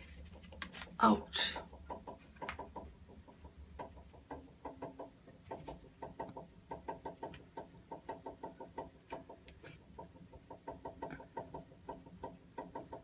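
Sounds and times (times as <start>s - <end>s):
water heater ticking: 1.4s - 13.0s.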